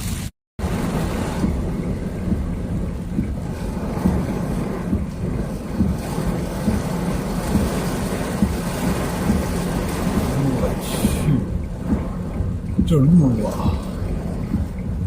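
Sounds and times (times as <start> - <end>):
heavy rain: 0.0 - 15.0
tyres on wet road: 0.0 - 15.0
wind buffeting car body: 0.6 - 15.0.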